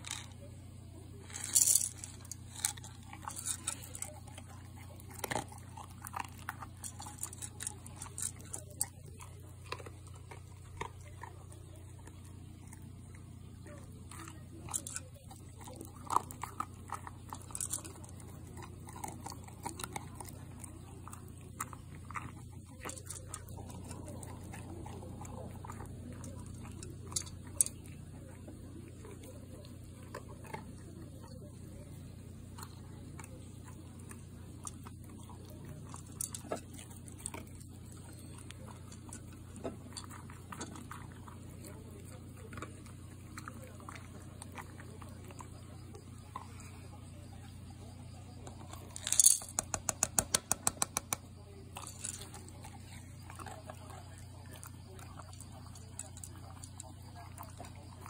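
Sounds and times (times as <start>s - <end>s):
dog crunching kibble: 0.0s - 58.0s
steady low hum: 0.0s - 58.0s
kibble clicking against bowl: 1.3s - 46.7s, 48.4s - 58.0s.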